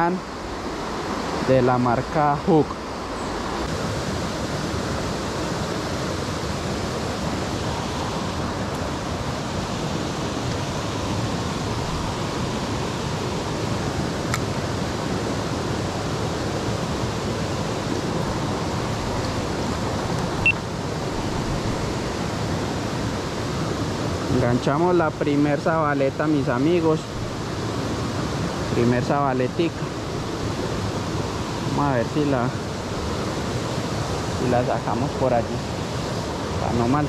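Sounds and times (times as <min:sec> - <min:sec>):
stream water over rocks: 0:00.0 - 0:37.0.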